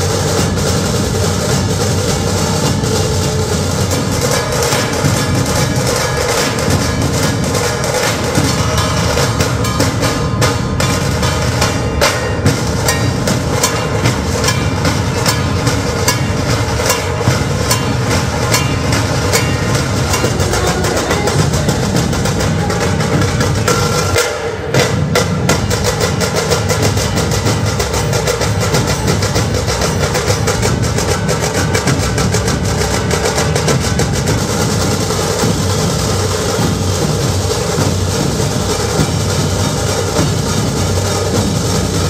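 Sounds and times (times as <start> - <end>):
drum ensemble playing: 0.0 - 42.0.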